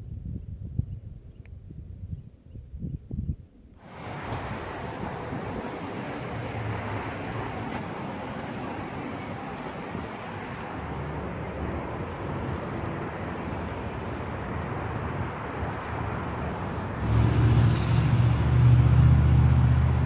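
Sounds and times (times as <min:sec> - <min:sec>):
road traffic noise: 0:03.8 - 0:20.0
vehicle engine rumbling: 0:03.9 - 0:20.0.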